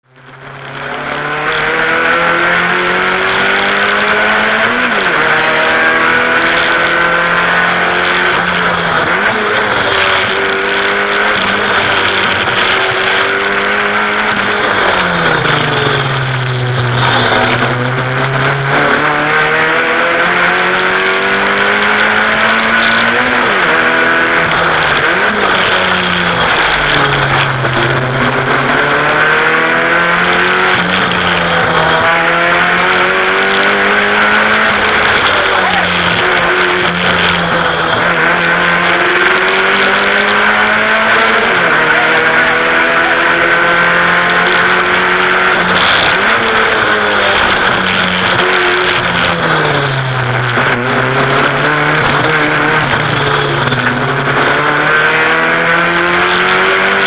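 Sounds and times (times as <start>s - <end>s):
sports car engine revving: 0.2s - 57.0s.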